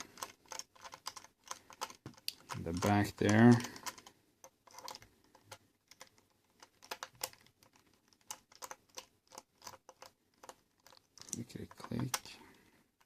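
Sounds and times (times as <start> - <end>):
plastic case being handled: 0.0 - 13.0.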